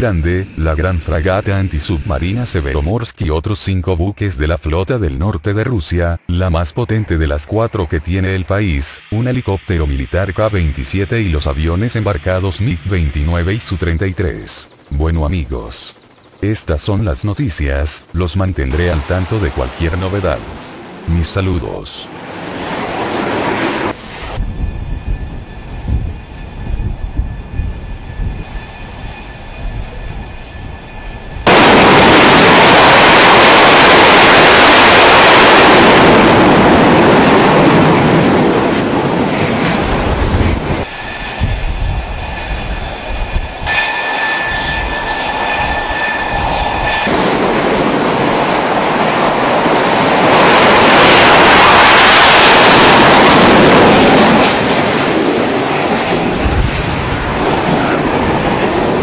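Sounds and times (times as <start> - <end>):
loud jet roar: 0.0 - 2.9, 6.2 - 59.0
jet taking off on afterburner: 0.0 - 5.5, 6.1 - 59.0
jet turbine whine: 0.0 - 59.0.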